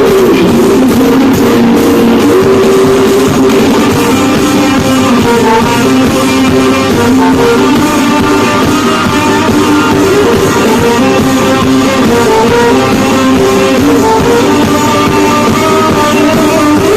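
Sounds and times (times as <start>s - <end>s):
live band with guitar and drums: 0.0s - 16.9s.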